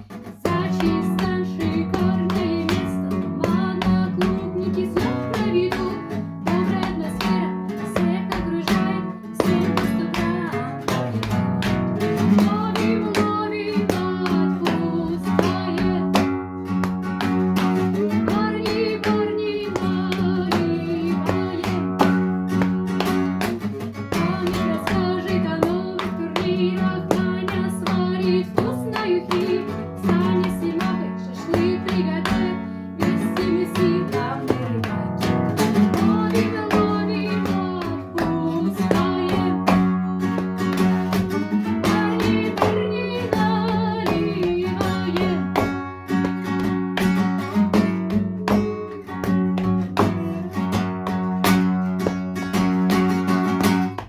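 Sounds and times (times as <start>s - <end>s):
woman singing: 0.0s - 51.2s
acoustic guitar: 0.0s - 54.0s.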